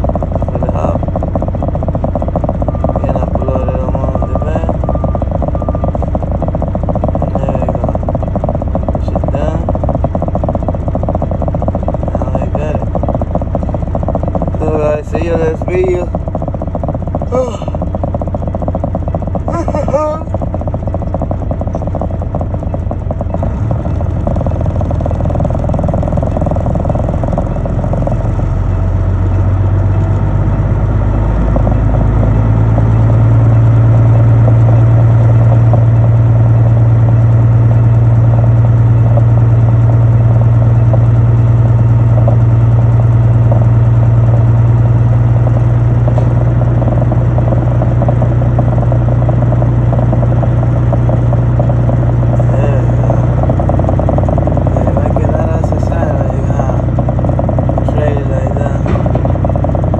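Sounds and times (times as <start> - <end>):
heavy vehicle engine running: 0.0 - 59.9.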